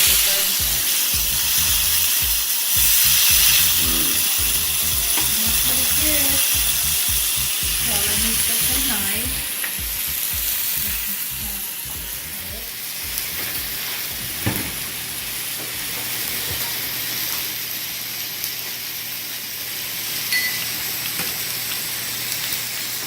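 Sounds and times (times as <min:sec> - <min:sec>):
steak sizzling in a pan: 0:00.0 - 0:23.0.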